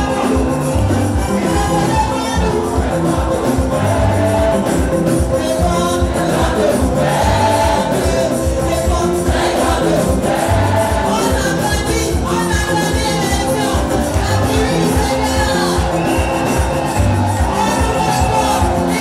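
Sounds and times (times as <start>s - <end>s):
choir singing: 0.0s - 11.9s, 13.6s - 19.0s
band with steady bass beat: 0.0s - 19.0s.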